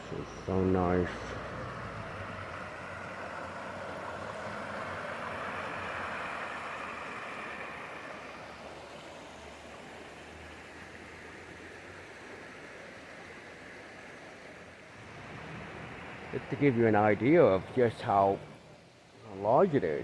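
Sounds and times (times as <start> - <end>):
passing vehicle tyre and engine noise: 0.0 - 20.0.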